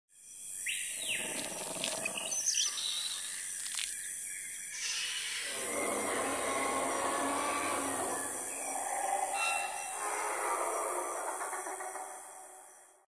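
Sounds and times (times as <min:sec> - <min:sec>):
bird calls and chirps: 0:00.2 - 0:13.0.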